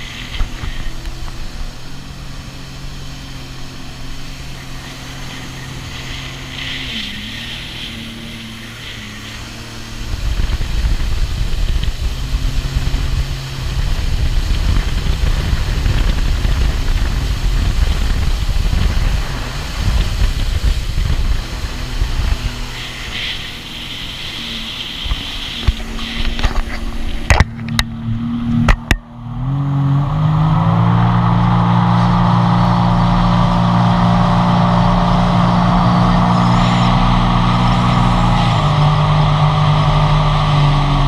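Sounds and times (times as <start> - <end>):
jet ski engine running: 0.0 - 41.0.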